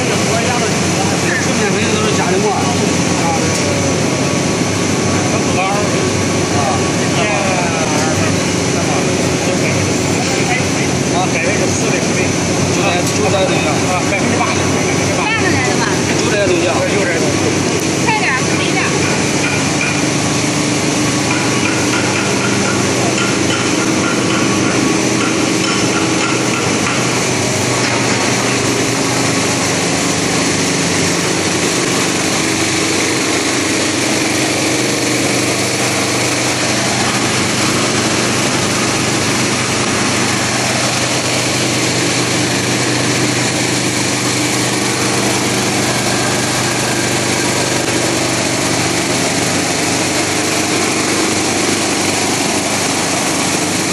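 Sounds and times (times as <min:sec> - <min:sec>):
machinery running with hum: 0:00.0 - 0:53.9.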